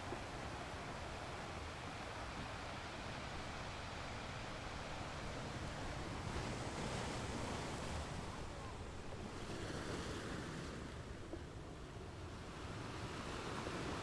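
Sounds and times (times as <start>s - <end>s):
lake water: 0.0s - 14.0s.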